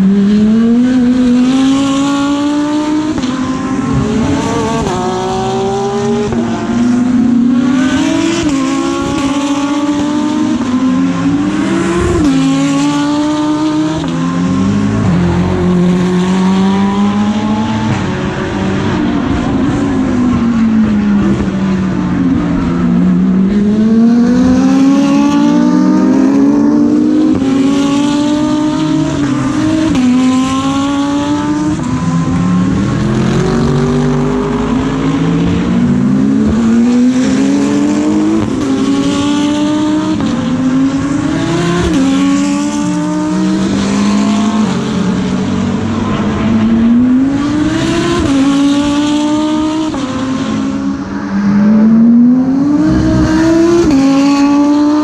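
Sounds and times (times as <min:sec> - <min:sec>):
engine upshifts: 0:00.0 - 0:55.0
race car engines accelerating: 0:00.0 - 0:55.0.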